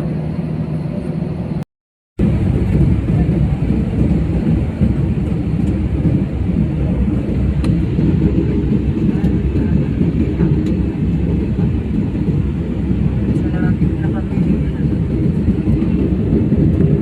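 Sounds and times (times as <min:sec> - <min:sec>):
jet cabin engine rumble: 0:00.0 - 0:01.6, 0:02.2 - 0:17.0.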